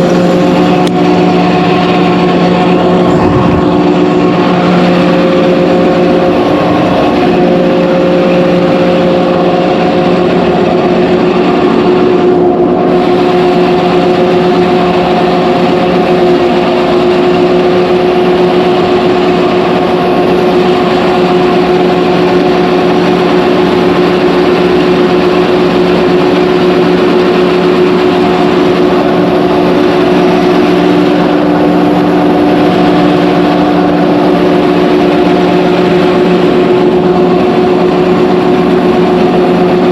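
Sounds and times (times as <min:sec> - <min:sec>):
threshing machine humming: 0:00.0 - 0:39.9.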